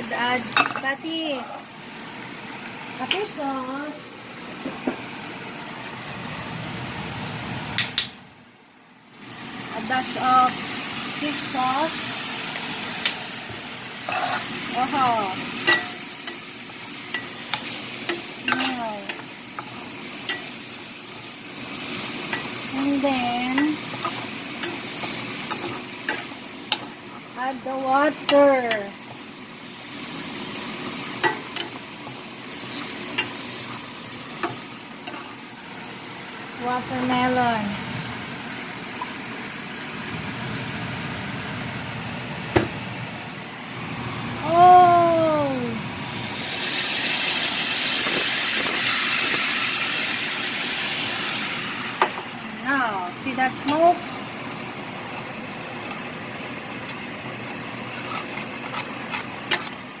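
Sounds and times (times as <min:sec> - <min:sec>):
meat sizzling in a frying pan: 0:00.0 - 0:57.6.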